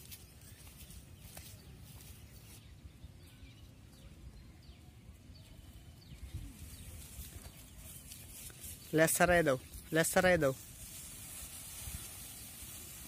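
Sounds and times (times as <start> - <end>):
distant birds chirping: 0.2 - 13.0.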